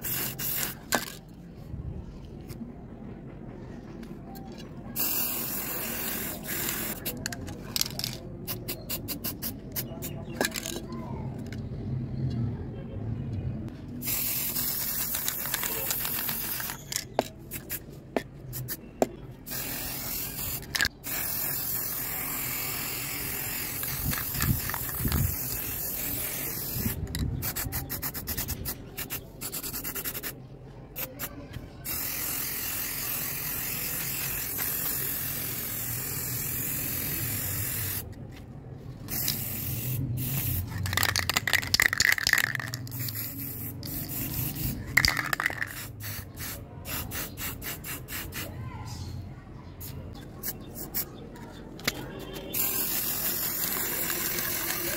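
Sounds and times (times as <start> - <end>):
spray paint can hissing: 0.0 - 1.2, 5.0 - 10.8, 14.0 - 17.8, 18.5 - 18.8, 19.4 - 38.2, 38.9 - 48.5, 49.8 - 51.1, 51.8 - 54.9.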